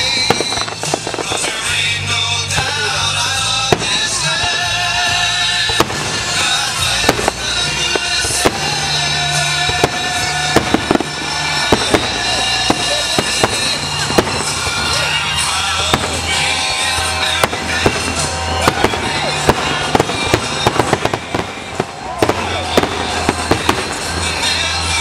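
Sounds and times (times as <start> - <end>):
fireworks bangs and crackles: 0.0 - 25.0
loud music with bass line: 0.0 - 25.0.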